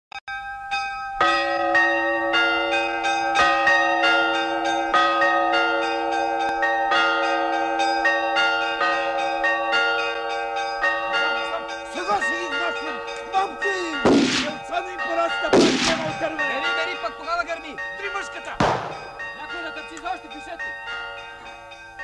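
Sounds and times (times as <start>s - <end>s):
church bells ringing: 0.3s - 22.0s.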